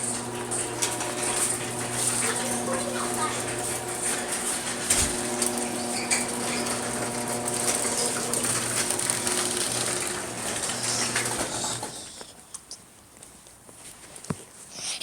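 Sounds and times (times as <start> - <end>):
garage door motor humming and rattling: 0.0 - 12.2.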